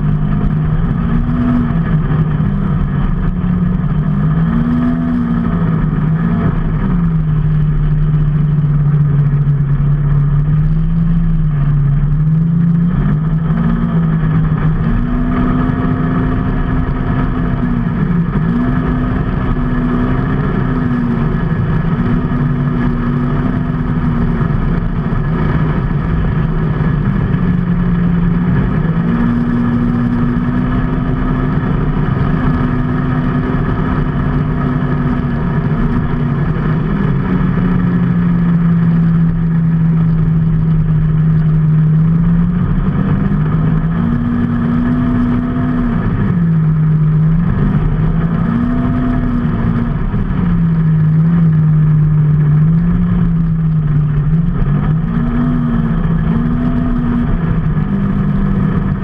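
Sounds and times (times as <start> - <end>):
road and wind rumble: 0.0 - 59.0
vehicle engine running: 0.0 - 59.0.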